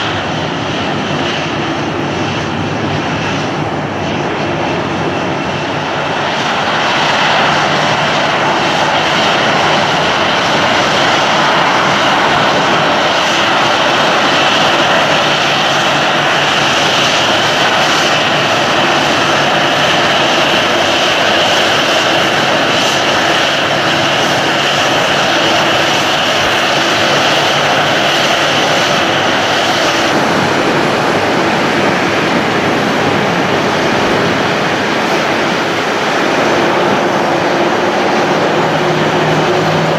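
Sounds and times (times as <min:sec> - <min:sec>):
high steady engine whine: 0:00.0 - 0:39.9
jet engines rushing: 0:00.0 - 0:39.9.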